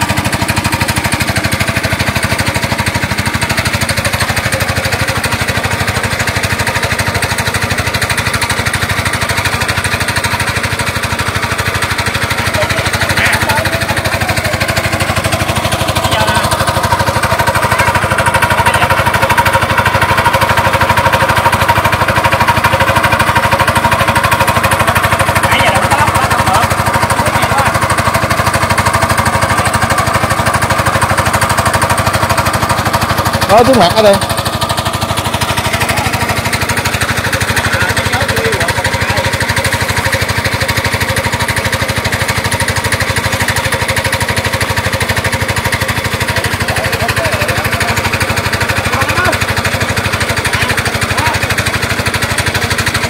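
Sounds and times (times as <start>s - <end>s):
water pump engine chugging: 0.0s - 53.0s.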